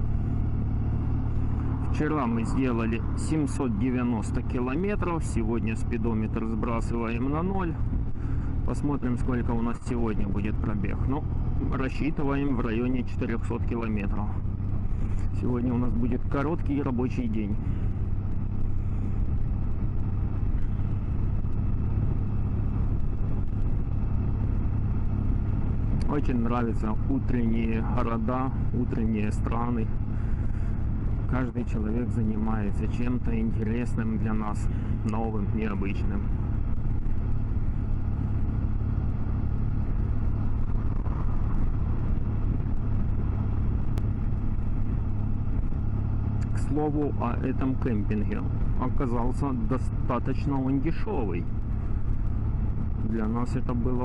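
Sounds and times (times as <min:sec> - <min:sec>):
motorcycle engine drone: 0:00.0 - 0:54.0
road and wind noise: 0:00.0 - 0:54.0.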